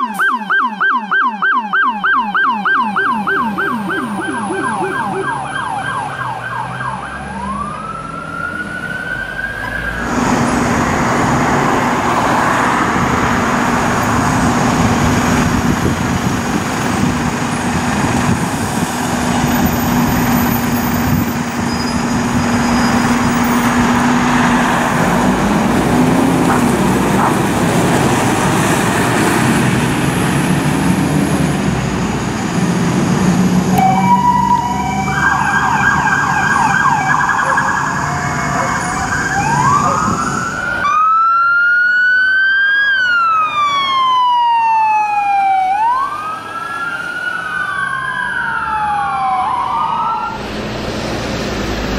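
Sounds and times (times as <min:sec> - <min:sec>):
fire truck siren: 0:00.0 - 0:51.9
heavy truck engine hum: 0:02.0 - 0:41.8, 0:43.0 - 0:51.9.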